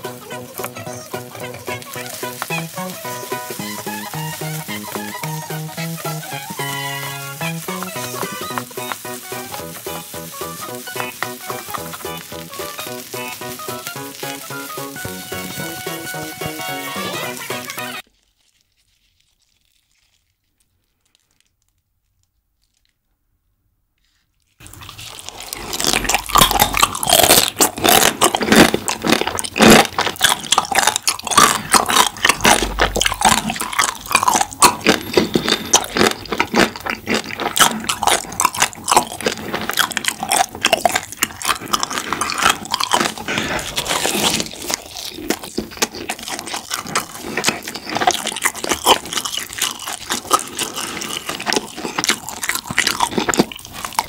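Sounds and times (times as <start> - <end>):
crunching and chewing: 0.0 - 23.0, 24.4 - 54.0.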